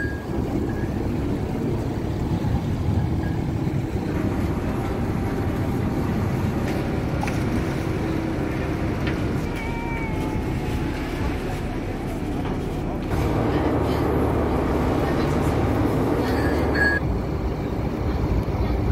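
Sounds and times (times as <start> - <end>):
ferry engine low rumble: 0.0 - 18.9.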